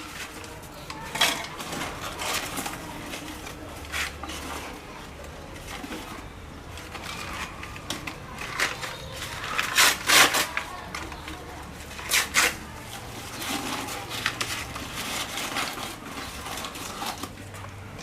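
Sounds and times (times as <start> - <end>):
wet scrapes of food and utensils: 0.0 - 18.0.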